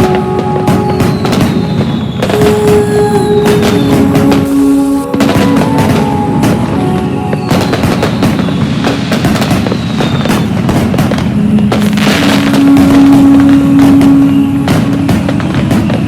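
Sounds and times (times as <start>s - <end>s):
firecrackers and fireworks popping: 0.0s - 16.0s
long held tones: 0.0s - 16.0s.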